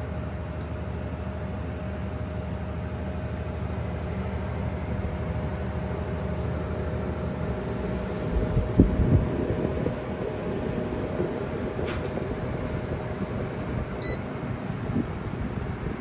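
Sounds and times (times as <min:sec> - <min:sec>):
cooling fans whirring: 0:00.0 - 0:16.0.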